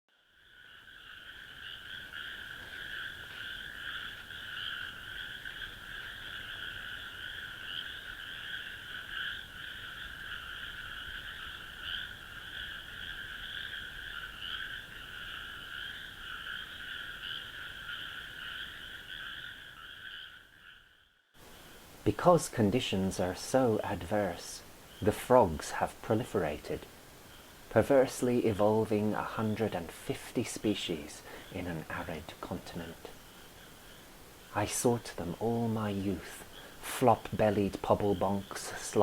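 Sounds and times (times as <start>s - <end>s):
chorus of frogs calling: 0.2s - 39.0s.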